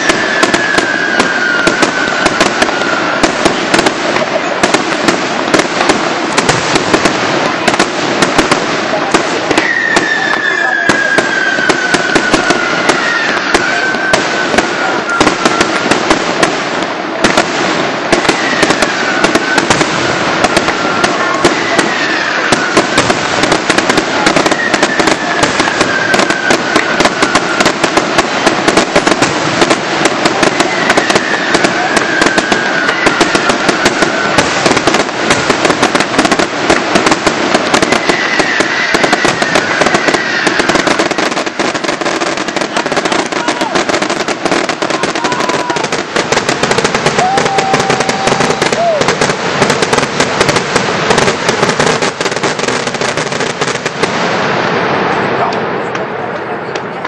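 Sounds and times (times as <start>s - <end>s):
falling firework whistle: 0.0s - 16.1s, 17.3s - 53.9s
fireworks cracking and banging: 0.0s - 57.0s.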